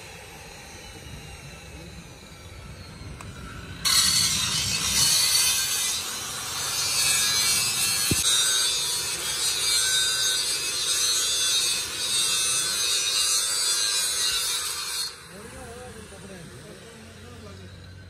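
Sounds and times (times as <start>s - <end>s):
angle grinder grinding steel: 0.0s - 18.0s.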